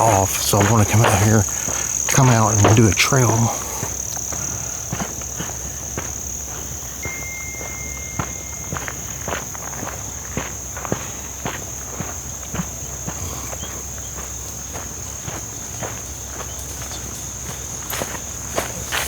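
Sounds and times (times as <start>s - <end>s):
footsteps on trail: 0.0s - 19.0s
insects chirping: 0.0s - 19.0s.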